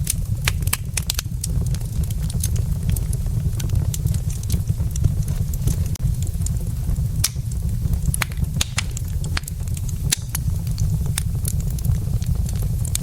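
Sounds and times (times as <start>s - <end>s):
wood logs burning and crackling: 0.0s - 13.0s.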